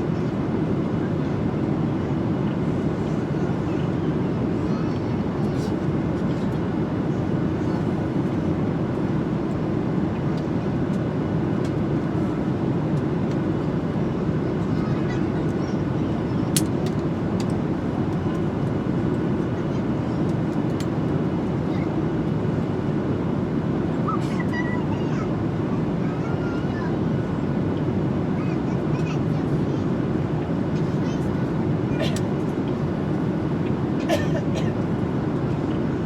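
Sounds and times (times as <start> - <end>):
airliner cabin engine rush: 0.0 - 36.0.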